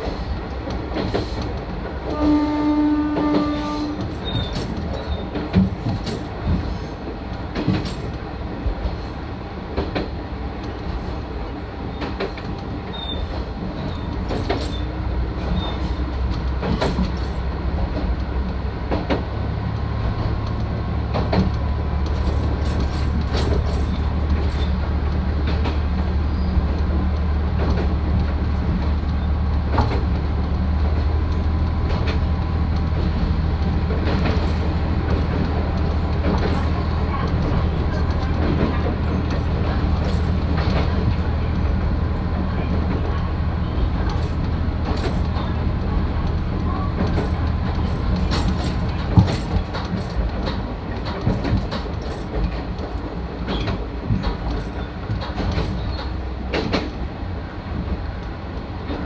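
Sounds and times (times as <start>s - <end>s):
train wheels clacking over rail joints: 0.0s - 59.0s.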